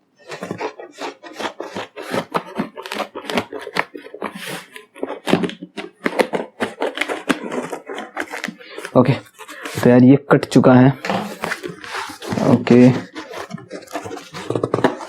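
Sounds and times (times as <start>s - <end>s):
packaging being cut and torn: 0.2s - 10.0s, 10.9s - 15.0s.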